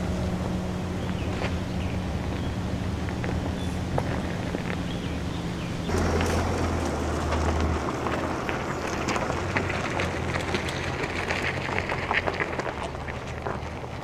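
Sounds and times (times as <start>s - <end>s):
diesel engine running low: 0.0s - 14.0s
tyres crunching over dirt: 0.0s - 14.0s.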